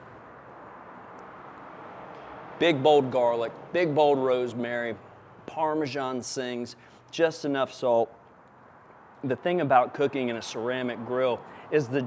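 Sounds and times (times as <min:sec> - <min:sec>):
faint steady rushing noise: 0:00.0 - 0:12.0.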